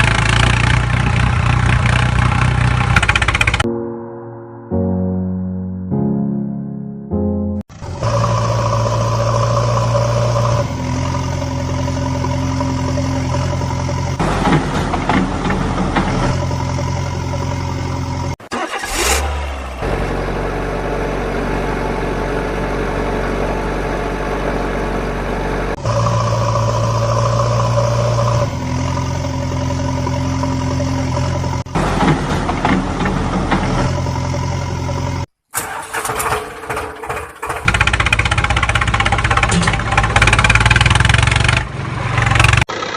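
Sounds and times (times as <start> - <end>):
vehicle engine idling and revving: 0.0 - 3.6, 7.7 - 42.9.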